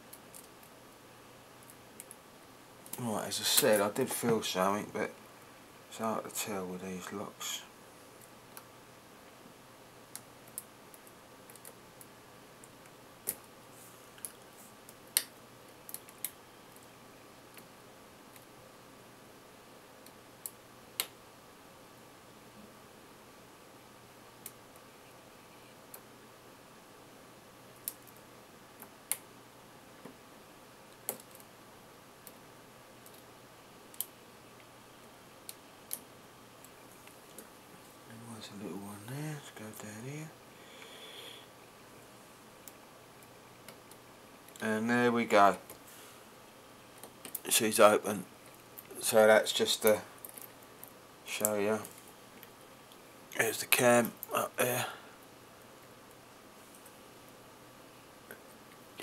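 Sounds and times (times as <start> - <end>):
faint background hum: 0.0 - 59.0.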